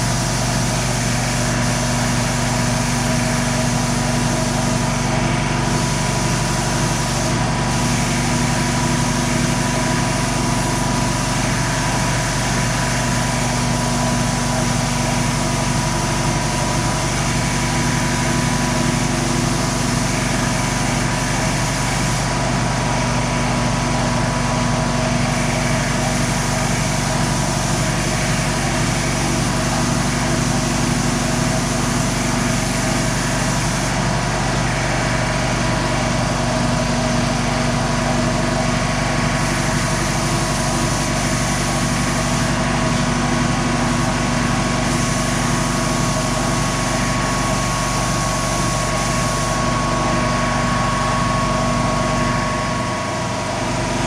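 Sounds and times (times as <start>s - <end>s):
air compressor motor hum: 0.0s - 54.0s.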